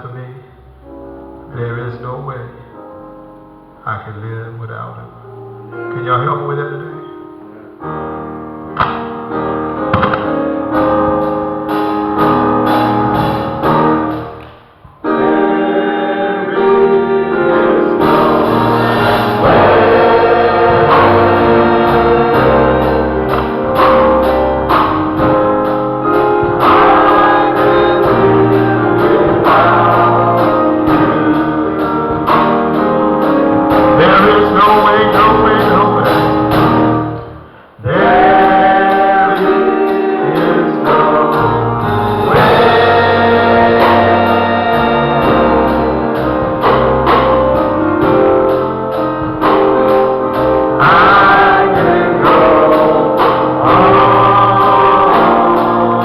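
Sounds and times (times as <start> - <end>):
gospel music with singing: 0.0 - 56.0.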